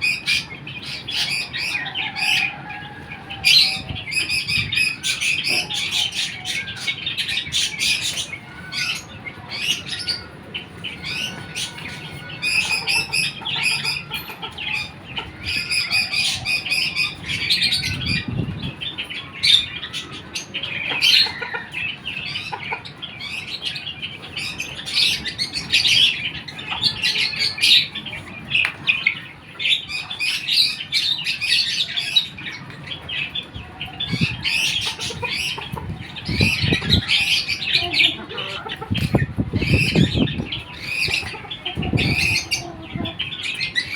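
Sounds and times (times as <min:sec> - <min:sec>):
chickens chirping: 0:00.0 - 0:43.9.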